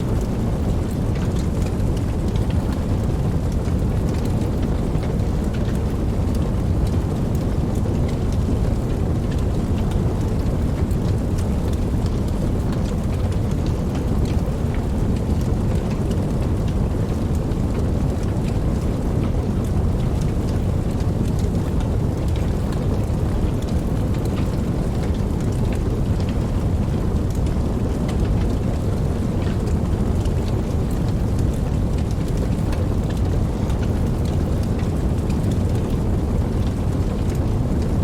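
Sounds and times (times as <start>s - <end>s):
raindrop ticks: 0.0s - 38.0s
steady rain: 0.0s - 38.0s.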